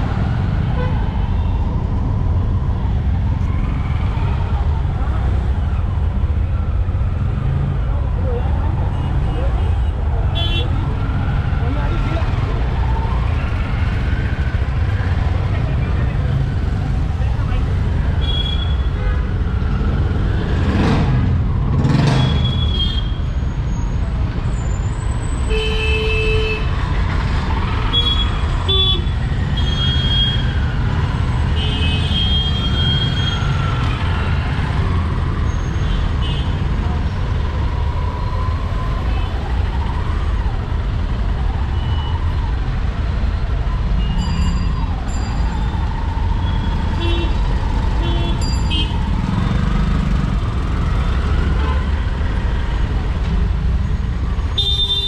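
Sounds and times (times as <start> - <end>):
small engine and road rumble: 0.0 - 25.5, 26.5 - 55.0.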